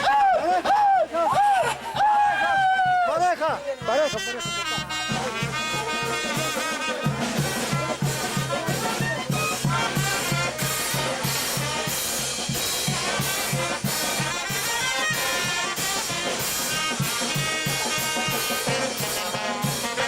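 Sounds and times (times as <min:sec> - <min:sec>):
brass band playing: 0:03.7 - 0:20.0
drum and bass beat: 0:03.8 - 0:20.0.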